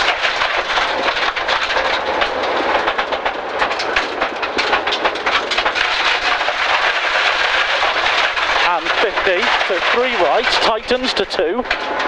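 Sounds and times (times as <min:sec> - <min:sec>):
car engine: 0:00.0 - 0:12.0
stones clattering against car underbody: 0:00.0 - 0:12.0
tyres rushing on gravel: 0:00.0 - 0:12.0.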